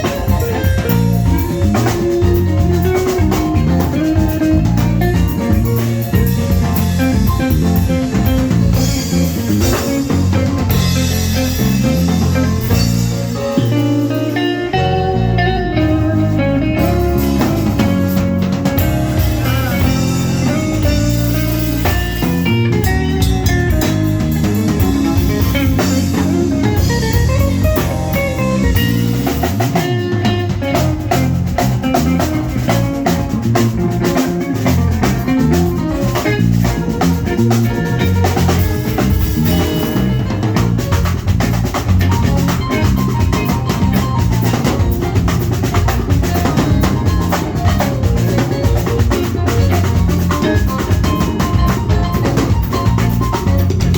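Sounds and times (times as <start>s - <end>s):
bass guitar: 0.0s - 53.9s
drum kit beat with rimshots: 0.0s - 53.9s
electric guitar: 0.0s - 53.9s.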